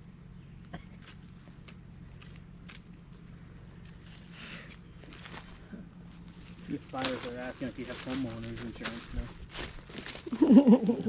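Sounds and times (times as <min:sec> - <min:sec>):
high-pitched insect chorus: 0:00.0 - 0:11.0
footsteps on leaves and twigs: 0:01.0 - 0:11.0.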